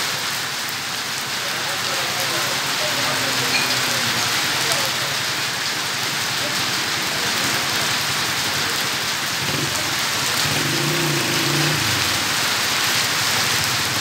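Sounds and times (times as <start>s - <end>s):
rain pattering on wet pavement: 0.0s - 14.0s.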